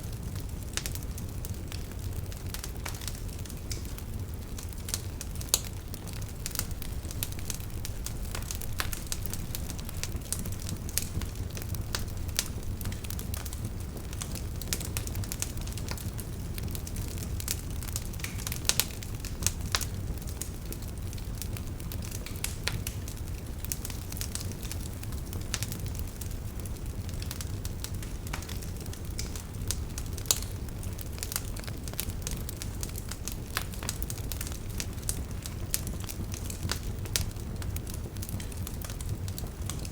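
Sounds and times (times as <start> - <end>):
burning wood crackling and popping: 0.0 - 39.9
campfire flames rumbling: 0.0 - 39.9.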